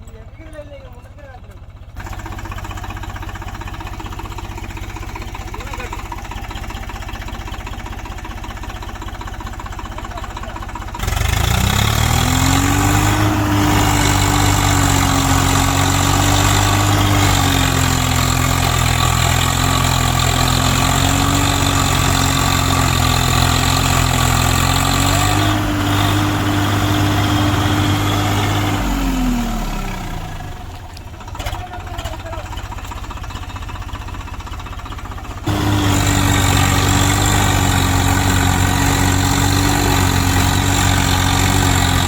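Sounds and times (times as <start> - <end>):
tractor diesel engine revving: 0.0 - 42.0.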